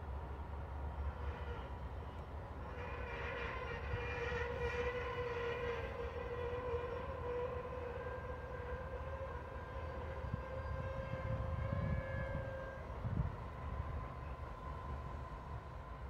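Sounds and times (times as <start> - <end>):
diesel locomotive engines droning: 0.0 - 16.0.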